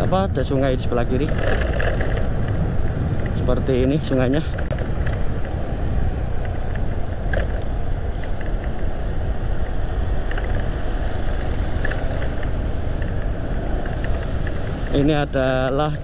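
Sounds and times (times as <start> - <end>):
motorcycle engine rumbling: 0.0 - 16.0
wind noise on microphone: 0.0 - 16.0.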